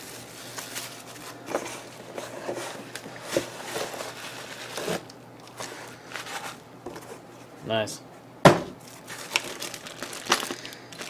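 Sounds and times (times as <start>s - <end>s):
bubble wrap and plastic rustling: 0.0s - 7.2s, 8.8s - 11.0s.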